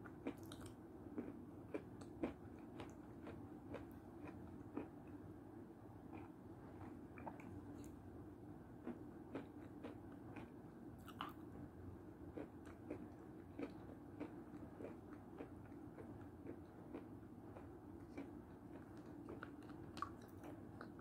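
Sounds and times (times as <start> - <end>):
faint chewing with clicks: 0.0 - 5.4, 6.0 - 8.0, 8.8 - 11.6, 12.3 - 21.0
low steady hum: 0.0 - 21.0.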